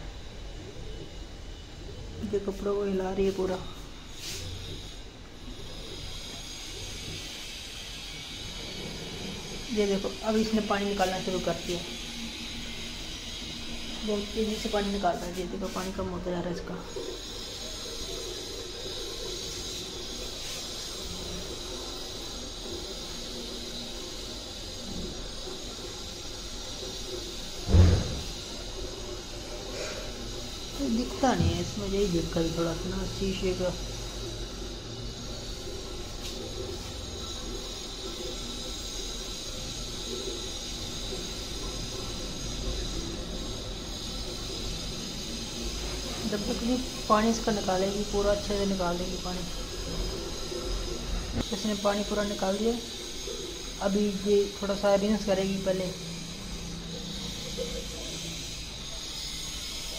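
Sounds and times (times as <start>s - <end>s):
water draining from washing machine: 3.8s - 59.9s.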